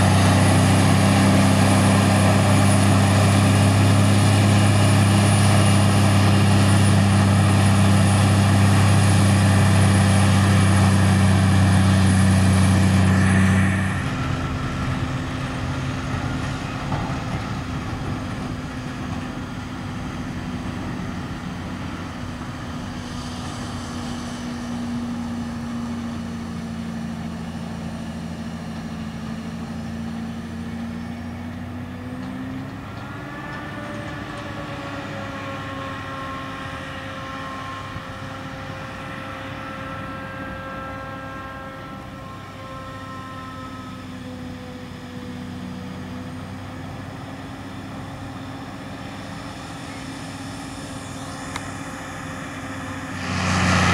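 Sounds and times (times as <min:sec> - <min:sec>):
distant steady engine: 0:00.0 - 0:53.9
forage harvester deep hum: 0:00.0 - 0:53.9.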